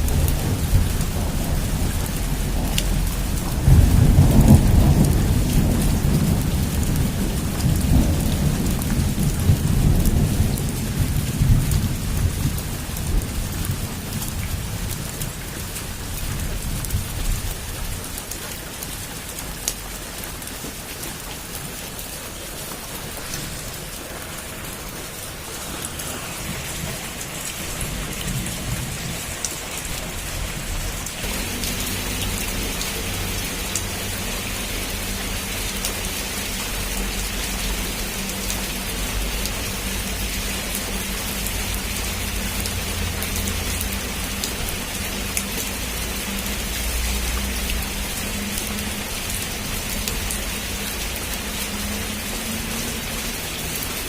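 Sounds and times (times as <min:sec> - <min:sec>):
thunder rumbling: 0:00.0 - 0:18.1, 0:22.3 - 0:52.6
heavy rain on a rooftop: 0:00.0 - 0:54.0.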